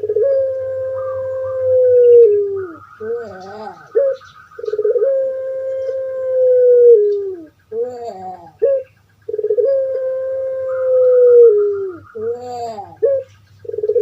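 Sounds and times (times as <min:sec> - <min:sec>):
dove calling: 0:00.0 - 0:14.0.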